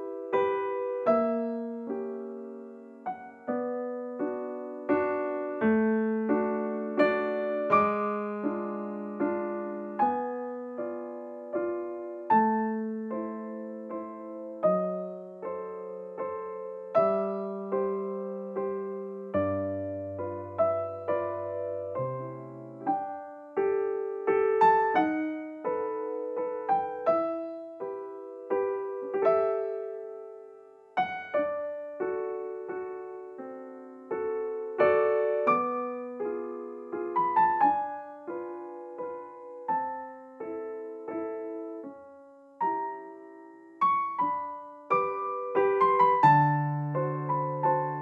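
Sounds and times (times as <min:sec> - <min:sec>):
solo piano piece: 0:00.0 - 0:48.0.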